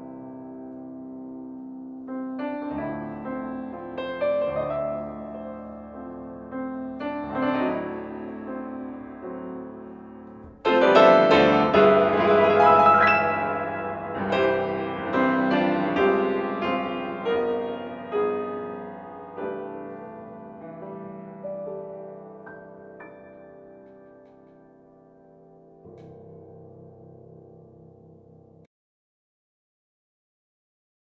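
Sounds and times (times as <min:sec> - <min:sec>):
grand piano playing: 0:00.0 - 0:28.7.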